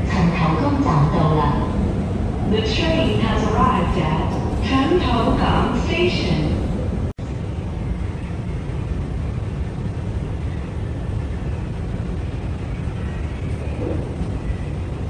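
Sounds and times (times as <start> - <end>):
metro train rumble: 0.0 - 15.0.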